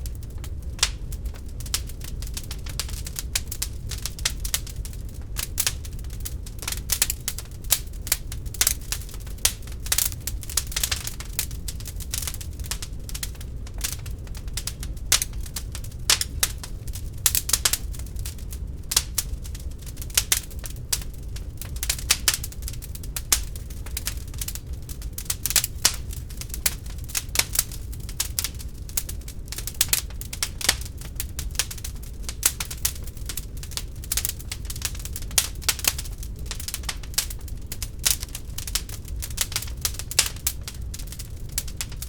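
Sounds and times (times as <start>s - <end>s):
low rumble of flames: 0.0s - 42.0s
wood fire crackling and popping: 0.0s - 42.0s.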